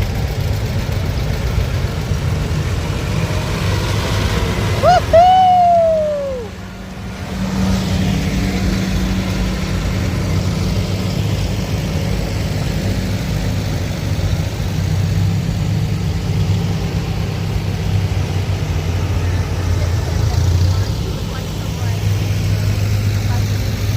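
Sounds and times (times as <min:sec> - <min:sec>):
tractor engine running: 0:00.0 - 0:23.9.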